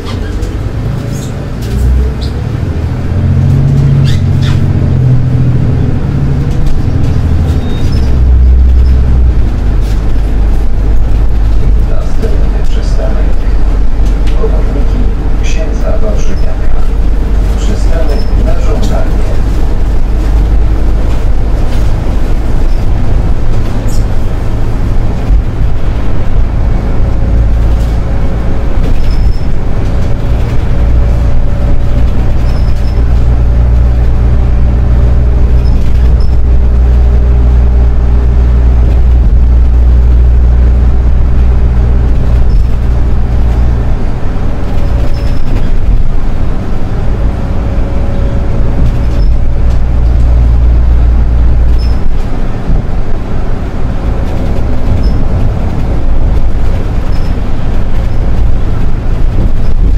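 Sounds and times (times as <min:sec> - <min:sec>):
bus engine humming: 0:00.0 - 0:59.9.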